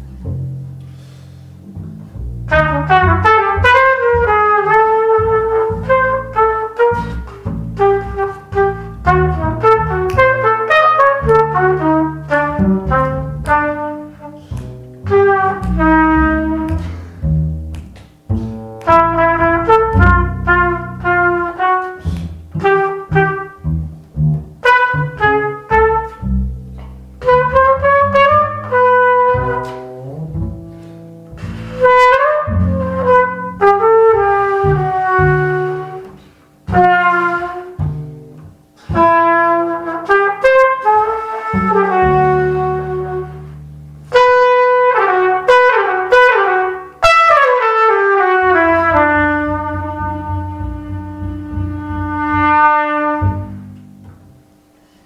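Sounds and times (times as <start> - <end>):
low bass notes: 0.0 - 46.0, 47.7 - 54.6
jazz duo playing slow ballad: 0.0 - 55.0.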